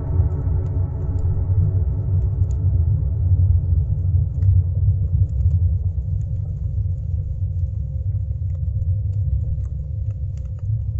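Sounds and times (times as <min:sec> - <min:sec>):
faint hum: 0:00.0 - 0:10.9.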